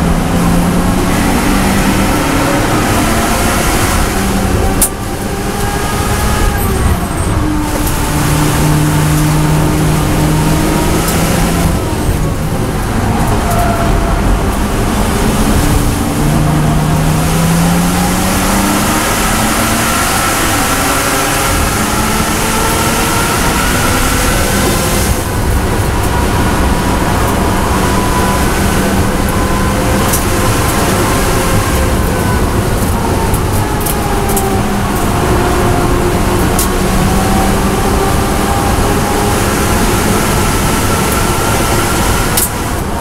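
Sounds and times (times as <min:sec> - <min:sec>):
race car engine revving: 0:00.0 - 0:43.0
tyre and wind noise: 0:00.0 - 0:43.0.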